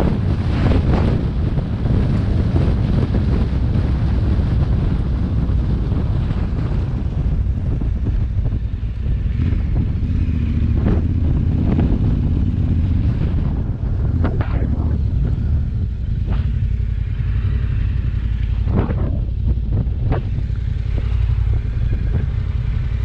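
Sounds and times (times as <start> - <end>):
faint motorcycle engine: 0.0 - 23.0
wind buffeting microphone: 0.0 - 23.0.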